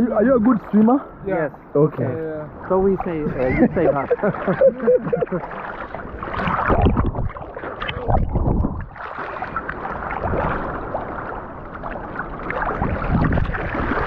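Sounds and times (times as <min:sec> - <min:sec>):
sea water sloshing and splashing: 0:00.2 - 0:14.0.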